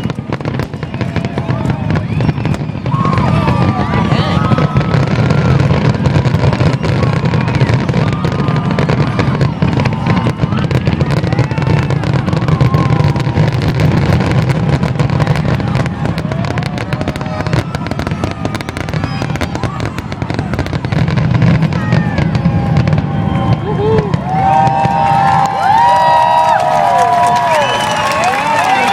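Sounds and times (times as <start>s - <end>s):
fireworks bangs and crackles: 0.0s - 28.9s.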